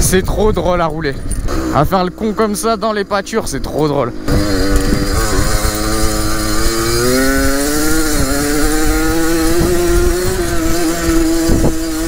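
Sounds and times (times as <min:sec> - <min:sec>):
dirt bike two-stroke engine revving: 0:00.0 - 0:12.0.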